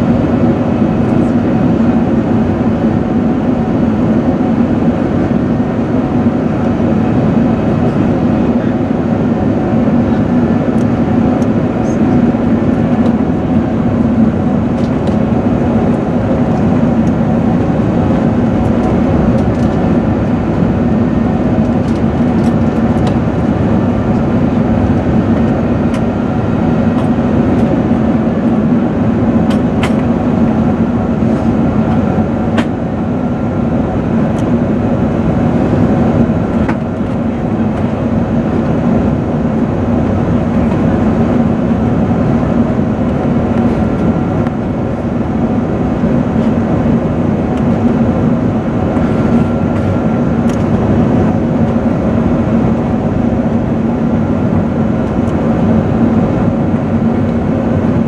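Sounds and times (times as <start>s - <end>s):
constant low hum: 0.0s - 58.0s
jet engines running: 0.0s - 58.0s.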